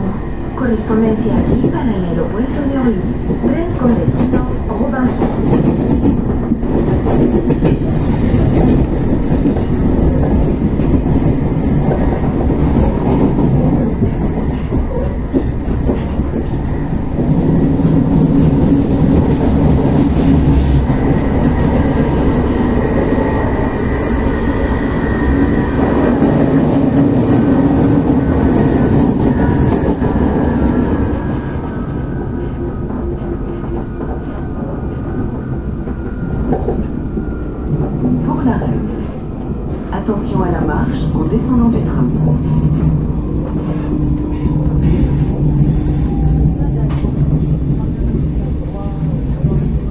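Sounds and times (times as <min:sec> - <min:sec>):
rail clickety-clack: 0:00.0 - 0:49.9
train wheels rumbling: 0:00.0 - 0:49.9.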